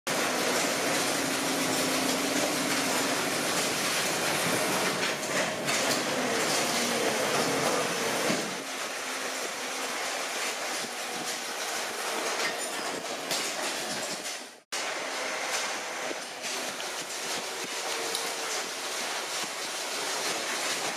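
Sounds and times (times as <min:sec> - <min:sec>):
factory machinery clatter: 0:00.1 - 0:20.9.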